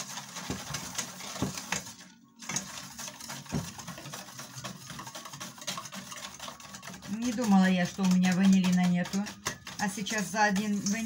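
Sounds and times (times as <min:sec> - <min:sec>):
spoon stirring in metal bowl: 0:00.0 - 0:11.0.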